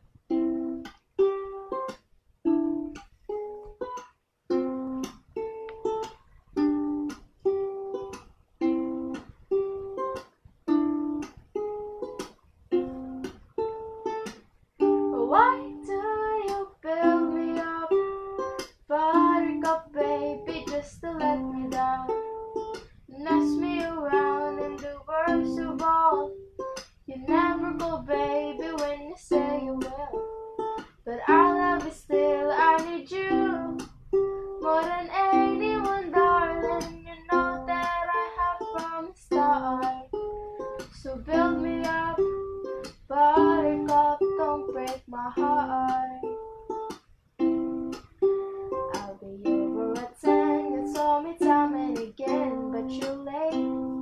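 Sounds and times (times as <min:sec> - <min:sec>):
strummed string instrument chords: 0:04.6 - 0:54.0.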